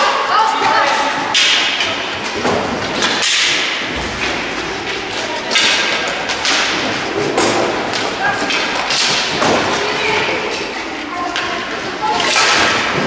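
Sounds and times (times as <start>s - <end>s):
skate wheels rolling and scraping: 0.2s - 13.0s
hockey sticks and ball knocking: 0.7s - 10.5s, 11.3s - 13.0s.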